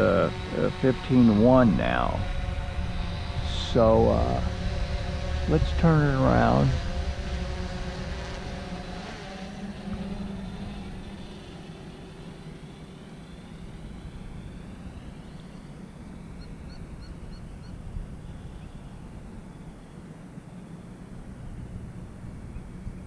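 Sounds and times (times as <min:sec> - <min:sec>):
drone propellers buzzing: 0:00.0 - 0:23.0.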